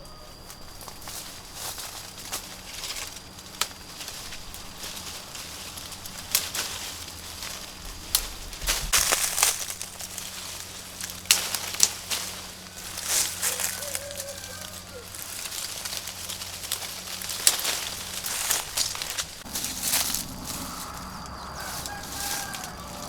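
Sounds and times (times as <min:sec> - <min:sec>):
leaves and branches rustling: 0:00.0 - 0:23.0
branches snapping: 0:00.4 - 0:23.0.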